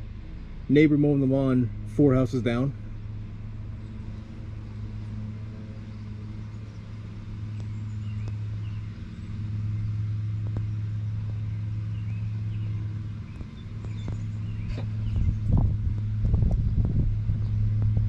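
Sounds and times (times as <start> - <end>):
distant lawn mower engine: 0.0 - 18.0.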